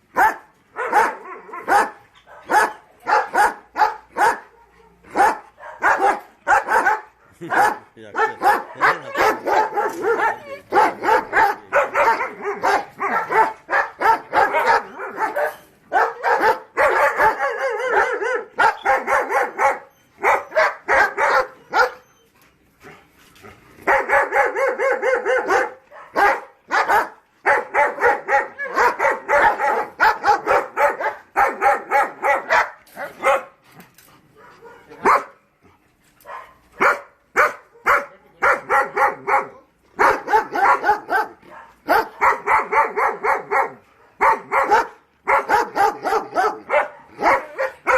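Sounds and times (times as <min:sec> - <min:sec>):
dogs barking: 0:00.1 - 0:22.1, 0:23.8 - 0:33.6, 0:34.4 - 0:35.4, 0:36.2 - 0:47.9.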